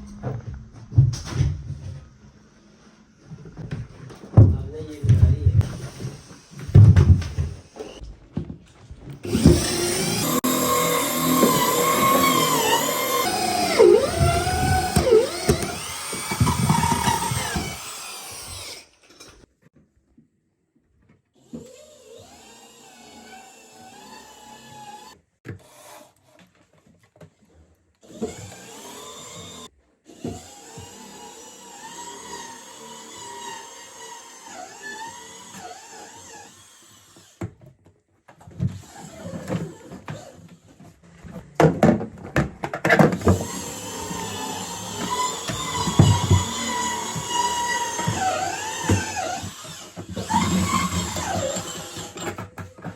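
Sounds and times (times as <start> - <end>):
power tools whining and clattering: 3.2 - 19.5, 21.4 - 25.9, 28.0 - 52.9.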